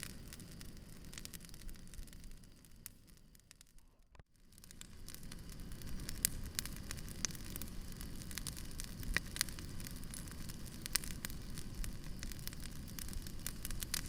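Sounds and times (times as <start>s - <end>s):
campfire crackling: 0.0s - 14.0s
low rumble of flames: 0.0s - 14.0s
sharp fire pops: 0.0s - 14.0s.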